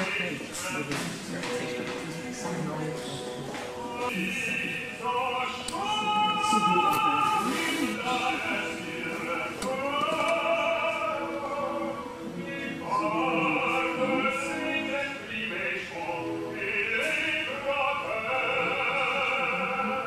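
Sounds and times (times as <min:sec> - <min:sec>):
classical accompaniment: 0:00.0 - 0:20.0
operatic singing: 0:03.4 - 0:20.0.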